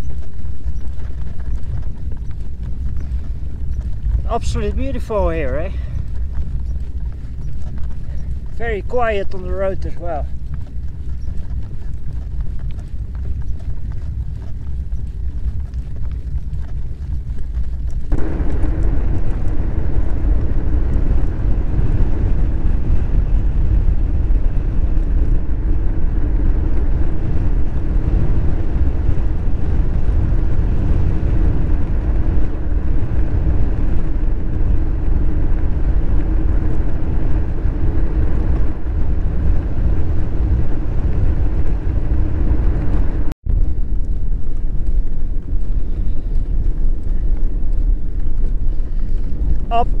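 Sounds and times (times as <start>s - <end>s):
tyres humming on road: 0.0s - 50.0s
wind buffeting microphone: 0.0s - 50.0s.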